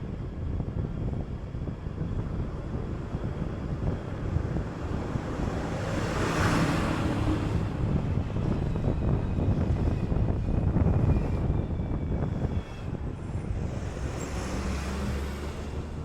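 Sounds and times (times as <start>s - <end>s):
bus engine and road rumble: 0.0s - 16.0s
wind buffeting microphone: 0.0s - 16.0s.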